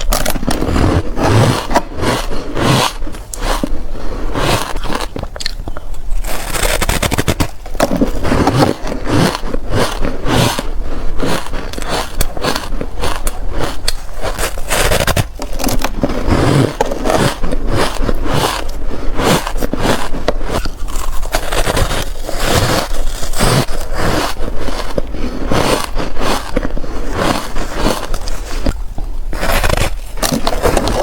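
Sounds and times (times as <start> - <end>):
ice being bitten and chewed: 0.0 - 31.0.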